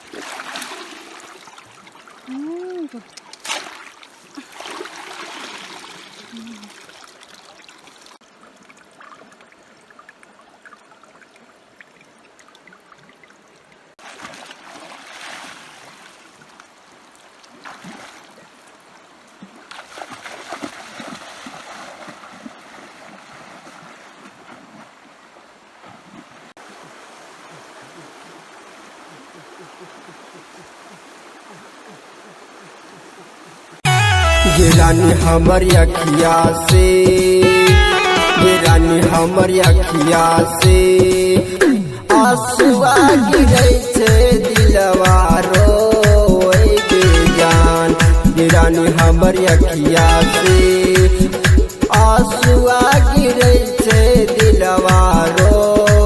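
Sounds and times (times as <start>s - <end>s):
stream water running: 0.0s - 56.0s
water splashing: 0.0s - 56.0s.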